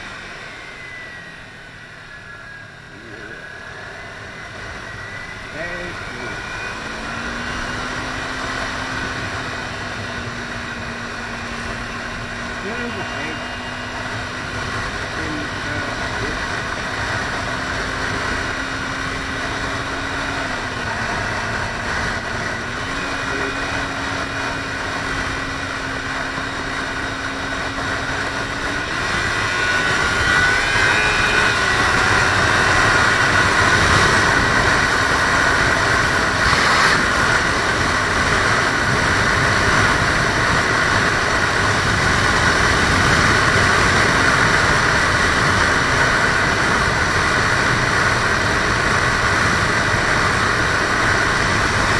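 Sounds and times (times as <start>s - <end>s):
motorcycle engine running: 0.0s - 51.9s
wind rushing on microphone: 3.8s - 51.9s.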